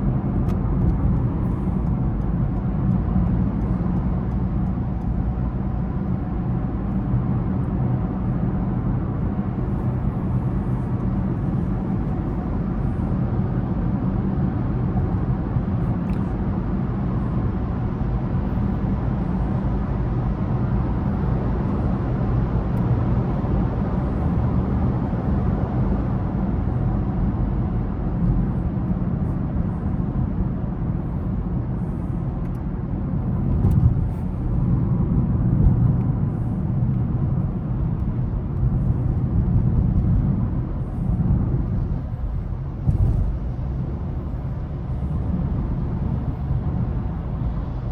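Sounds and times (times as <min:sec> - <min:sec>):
car engine hum: 0:00.0 - 0:47.9
road and tyre noise: 0:00.0 - 0:47.9.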